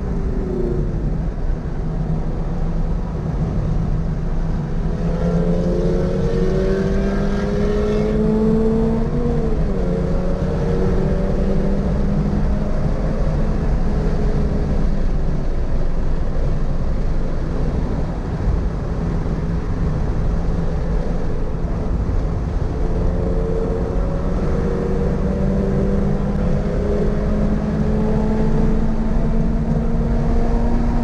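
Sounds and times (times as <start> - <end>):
car engine on track: 0.0 - 31.0.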